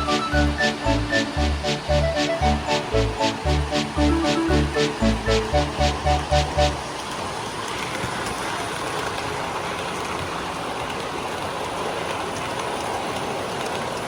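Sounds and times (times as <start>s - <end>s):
model trains running on track: 0.0s - 14.0s.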